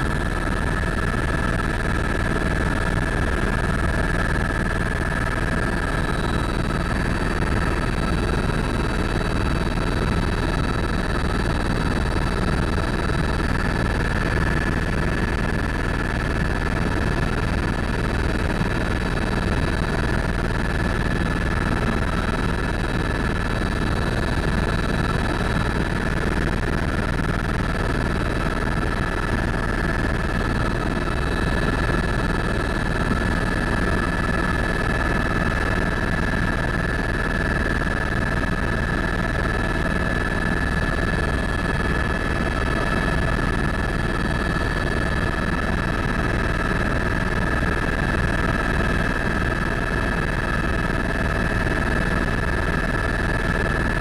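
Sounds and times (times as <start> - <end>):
helicopter rotor and turbine drone: 0.0 - 54.0.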